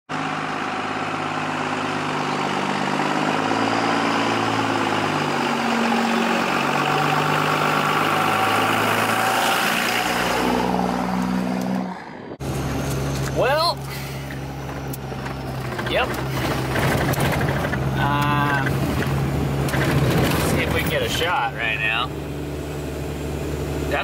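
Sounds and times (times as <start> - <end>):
engine running: 0.1 - 24.0.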